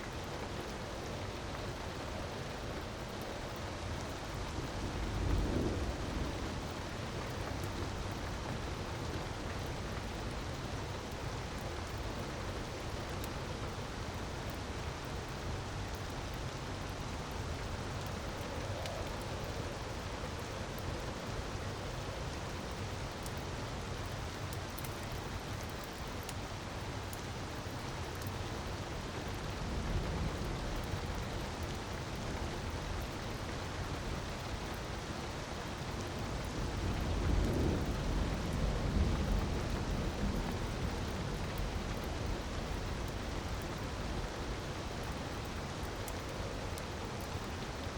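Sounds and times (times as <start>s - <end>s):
wood fire crackling: 0.1s - 47.9s.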